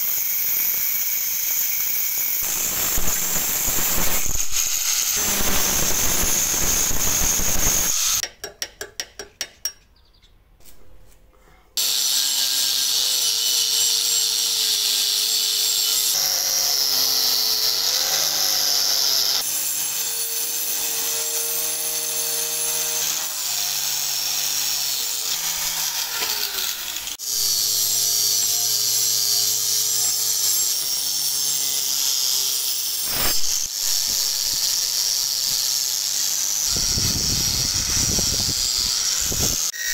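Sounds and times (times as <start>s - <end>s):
angle grinder cutting steel: 0.0s - 8.2s, 11.8s - 39.9s
wire brush grinder scrubbing steel: 0.0s - 8.2s, 11.8s - 39.9s.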